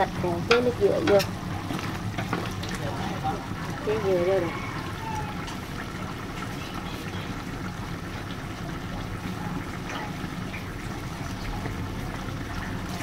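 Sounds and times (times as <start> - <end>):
meat sizzling and bubbling in a pot: 0.0 - 13.0.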